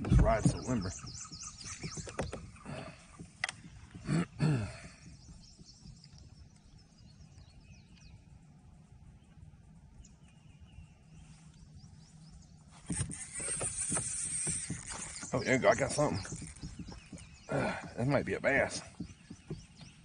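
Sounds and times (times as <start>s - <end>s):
loud bird calls: 0.0s - 8.4s, 9.1s - 20.0s
faint bird chirps: 0.1s - 4.0s, 4.6s - 20.0s.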